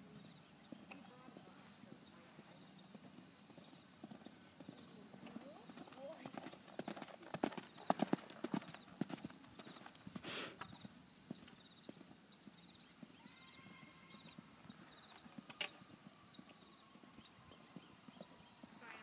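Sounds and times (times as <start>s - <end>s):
horse hooves cantering on gravel: 0.7s - 19.0s.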